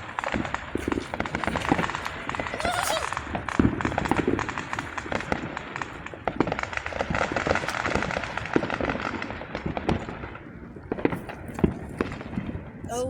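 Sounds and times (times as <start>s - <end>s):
fireworks popping and banging: 0.0s - 13.0s.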